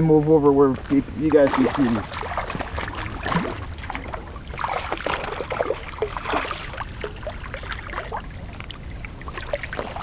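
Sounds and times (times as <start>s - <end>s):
fish thrashing water splashing: 1.4s - 10.0s.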